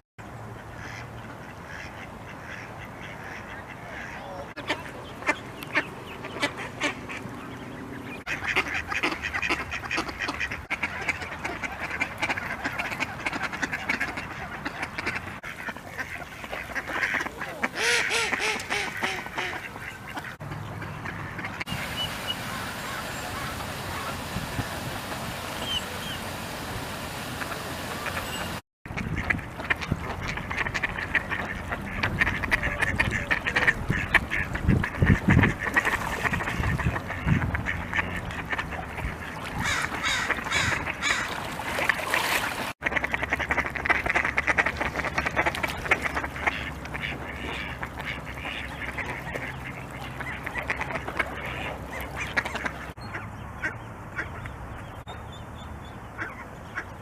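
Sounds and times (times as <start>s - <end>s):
ducks quacking: 0.5s - 55.0s, 56.2s - 57.0s.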